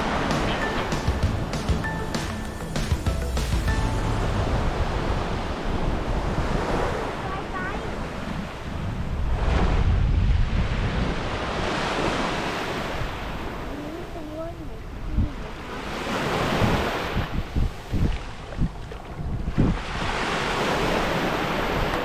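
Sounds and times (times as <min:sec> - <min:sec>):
sea surf washing in: 0:00.0 - 0:18.6, 0:19.5 - 0:22.0
wind on microphone: 0:03.8 - 0:22.0.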